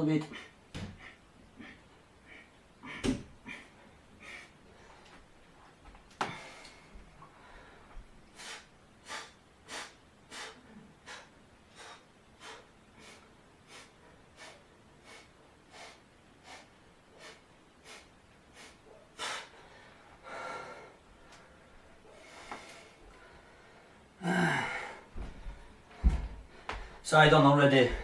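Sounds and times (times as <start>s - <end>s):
man breathing: 0.3s - 5.4s, 6.2s - 27.1s, 27.7s - 28.0s.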